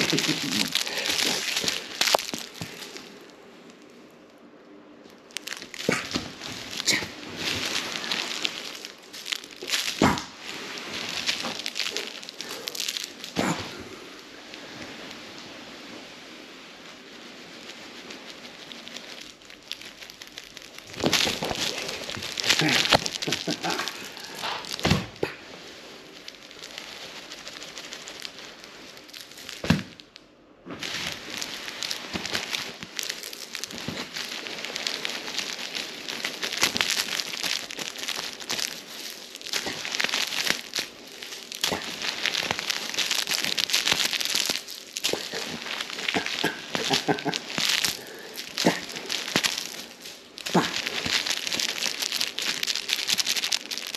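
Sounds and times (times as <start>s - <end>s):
straw toy crackling and rustling: 0.0s - 53.9s.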